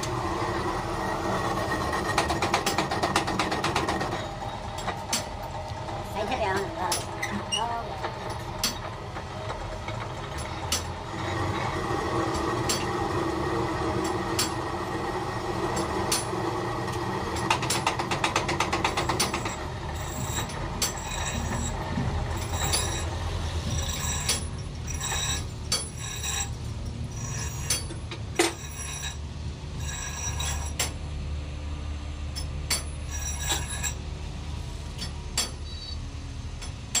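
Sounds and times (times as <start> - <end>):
scraping whirr: 0.0 - 31.0, 32.9 - 34.1
lathe running with low hum: 0.0 - 32.4, 33.0 - 35.0.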